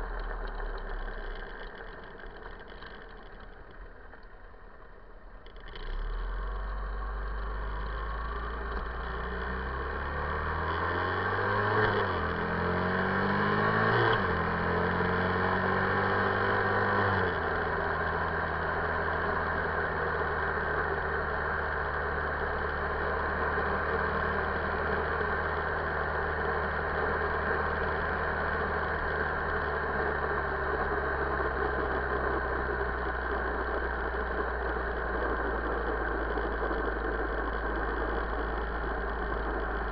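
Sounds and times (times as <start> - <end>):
motorcycle engine accelerating: 5.4 - 39.9.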